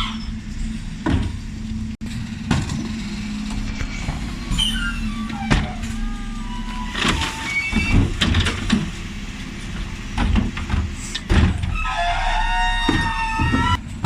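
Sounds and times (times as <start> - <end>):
lorry engine running: 0.0 - 14.0.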